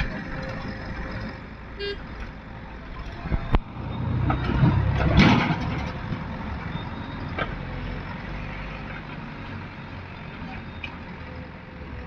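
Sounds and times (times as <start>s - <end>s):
diesel machinery rumbling: 0.0s - 12.0s.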